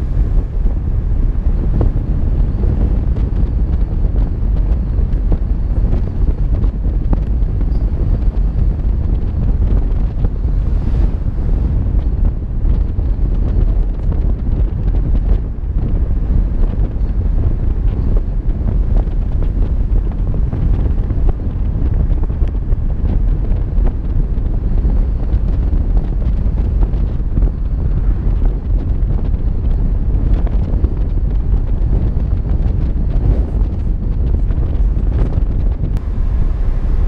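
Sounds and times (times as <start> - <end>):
vehicle road noise: 0.0 - 37.0
wind rumbling on microphone: 0.0 - 37.0.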